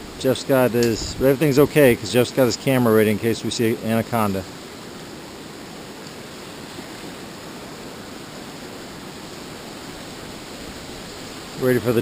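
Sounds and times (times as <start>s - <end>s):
tidal water rushing: 0.0s - 12.0s.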